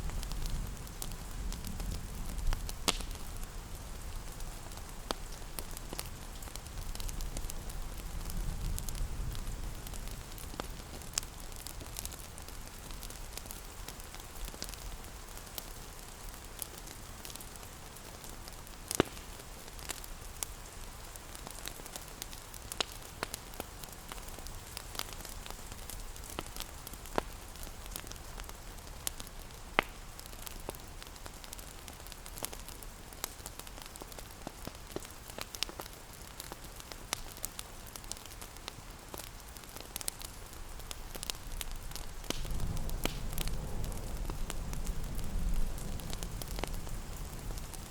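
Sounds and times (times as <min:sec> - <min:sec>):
steady rain hiss: 0:00.0 - 0:47.9
wood fire crackling and popping: 0:00.0 - 0:47.9.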